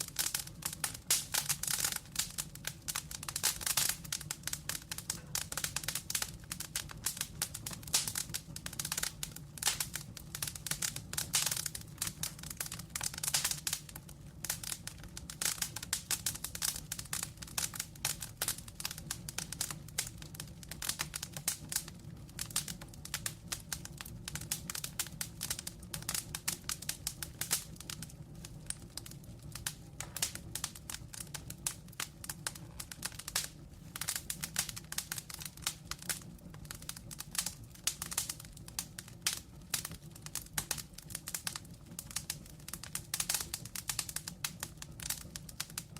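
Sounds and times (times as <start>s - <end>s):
low rumble of flame: 0.0s - 45.9s
wood fire crackling and popping: 0.0s - 45.9s.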